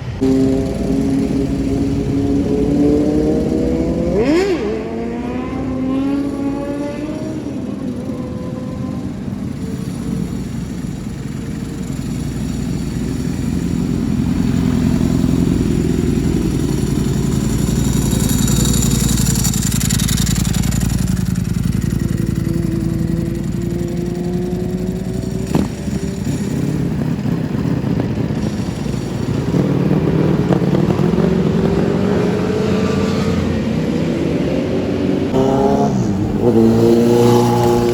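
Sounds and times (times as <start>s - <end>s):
vehicle engines passing: 0.0s - 37.9s.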